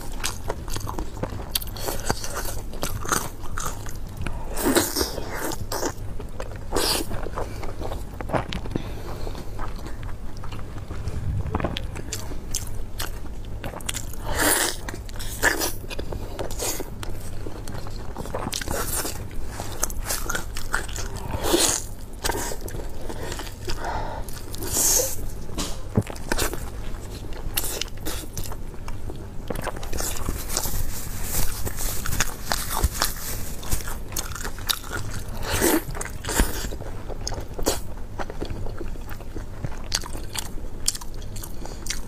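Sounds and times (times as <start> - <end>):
person chewing pork belly: 0.0 - 42.0.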